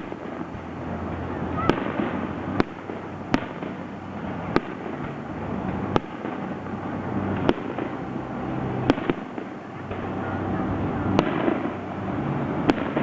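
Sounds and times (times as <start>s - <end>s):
fireworks bangs: 0.0s - 13.0s
steady background noise: 0.0s - 13.0s.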